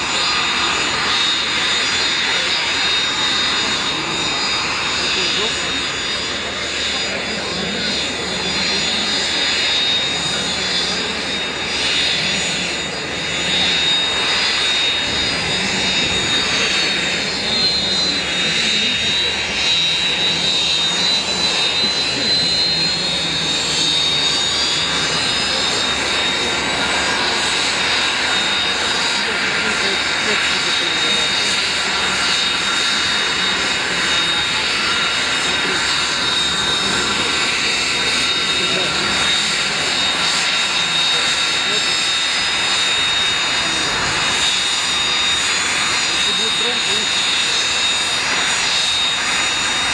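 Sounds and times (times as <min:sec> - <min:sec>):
aircraft engines running: 0:00.0 - 0:49.9.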